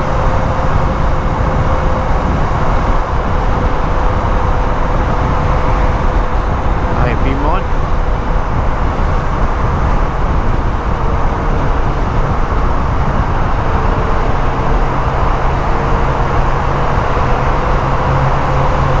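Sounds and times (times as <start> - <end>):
motorcycle engine drone: 0.0 - 19.0
wind and road noise: 0.0 - 19.0.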